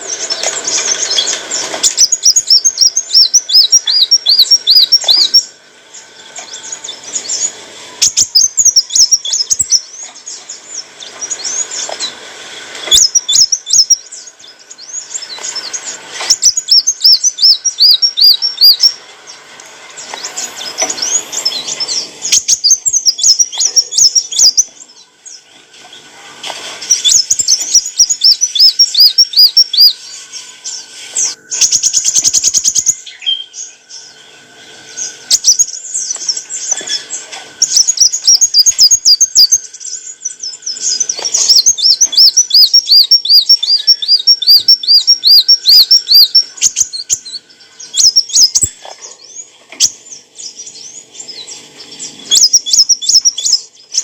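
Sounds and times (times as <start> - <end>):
sunbird high thin chirps: 0.0 - 25.4, 26.6 - 54.0.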